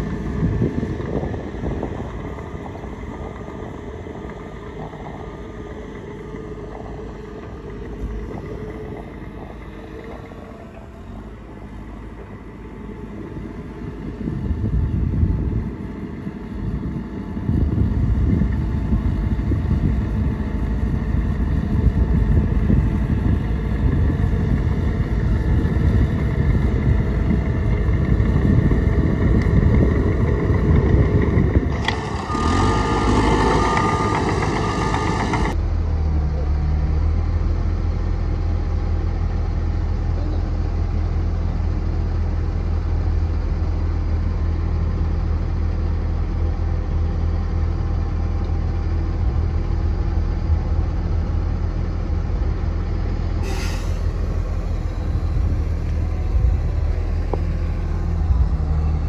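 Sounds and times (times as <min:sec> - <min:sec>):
diesel machinery engine rumble: 0:00.0 - 0:59.0.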